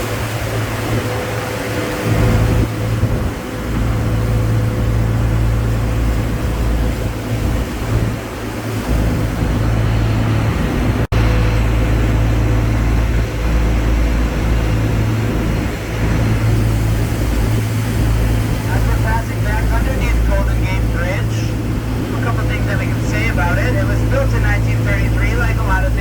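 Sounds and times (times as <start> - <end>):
boat engine droning: 0.0 - 26.0
rush of wind: 0.0 - 26.0
rushing water: 0.0 - 26.0.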